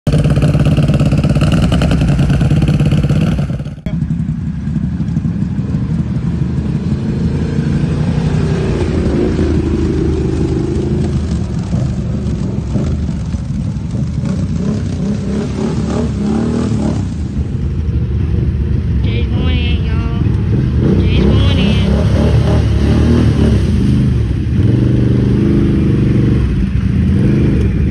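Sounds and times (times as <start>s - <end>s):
atv engines revving: 0.1s - 27.9s.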